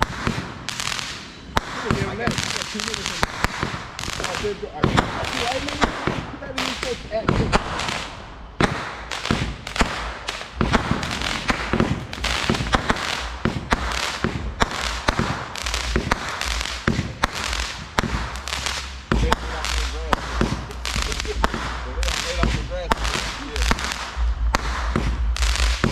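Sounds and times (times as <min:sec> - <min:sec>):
fireworks bangs and pops: 0:00.0 - 0:25.9
fireworks crackle: 0:00.0 - 0:25.9.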